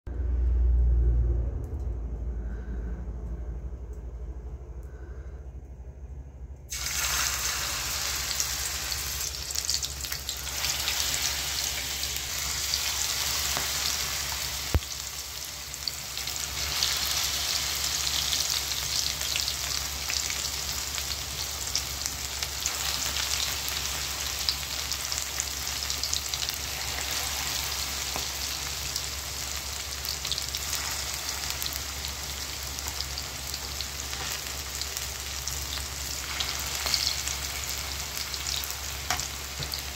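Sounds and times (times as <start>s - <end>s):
food deep-frying in hot oil: 6.7s - 39.9s.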